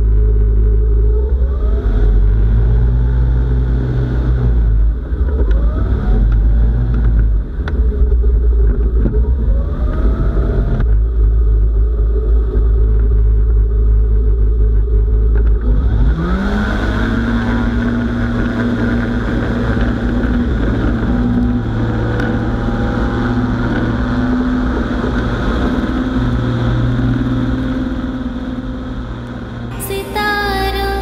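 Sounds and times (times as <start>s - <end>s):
engine and propeller at full power: 0.0s - 29.8s.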